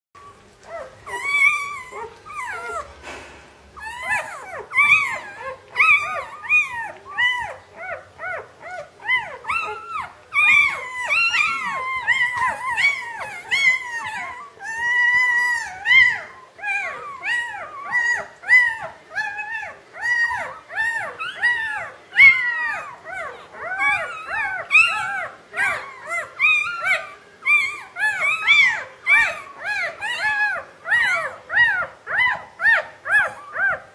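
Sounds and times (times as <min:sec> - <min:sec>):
puppies squealing and whimpering: 0:00.2 - 0:33.9.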